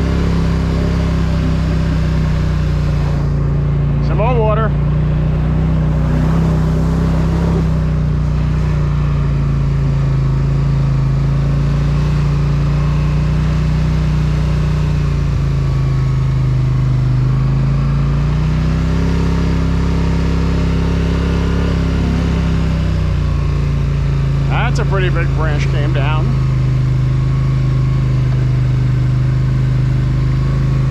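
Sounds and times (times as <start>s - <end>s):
quad bike engine running: 0.0s - 30.9s.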